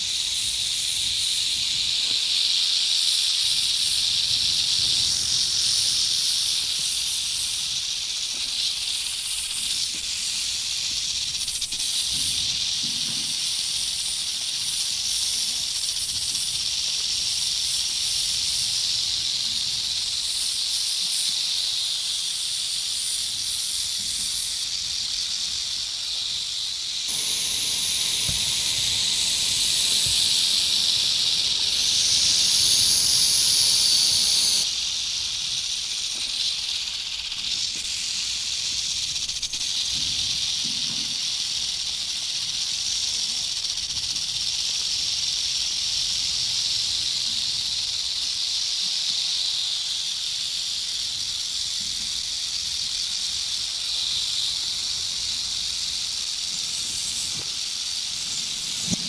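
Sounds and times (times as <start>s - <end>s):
snake hissing: 0.0s - 59.0s.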